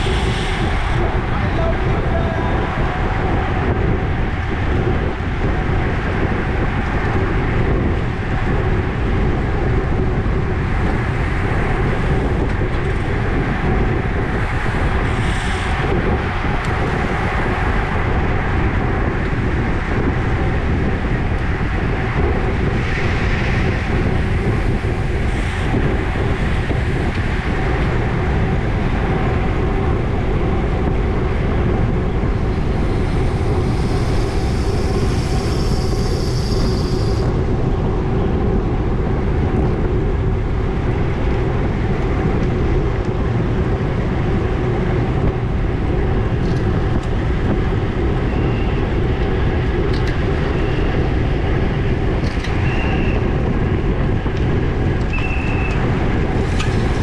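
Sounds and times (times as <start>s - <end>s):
bike tyres on asphalt: 0.0s - 57.0s
wind rushing over microphone: 0.0s - 57.0s.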